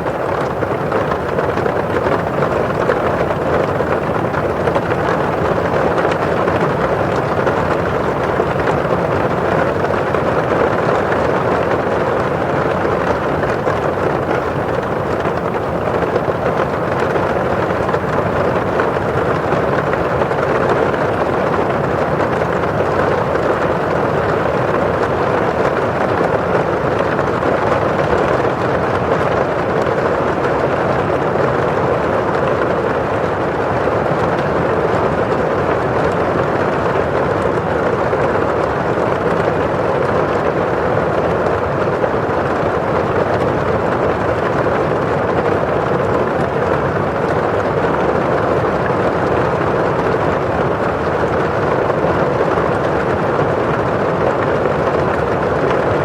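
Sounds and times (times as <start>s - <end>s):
rain pattering on window glass: 0.0s - 56.0s.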